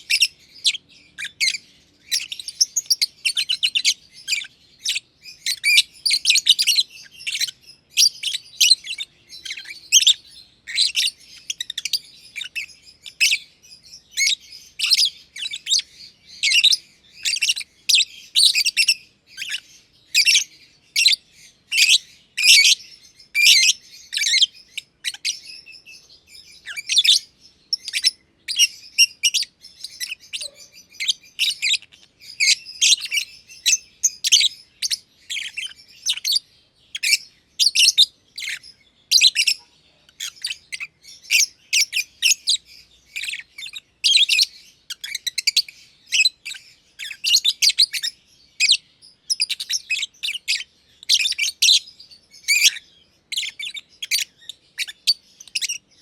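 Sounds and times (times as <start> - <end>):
lovebirds chirping: 0.0 - 56.0.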